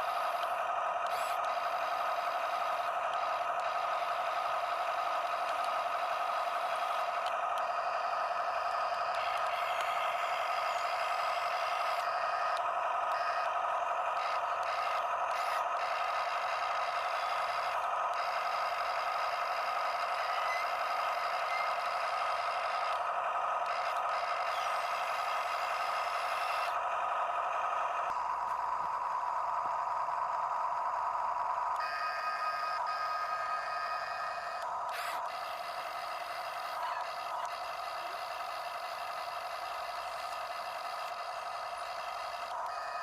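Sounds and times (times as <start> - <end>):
electric motors whining: 0.0 - 43.0.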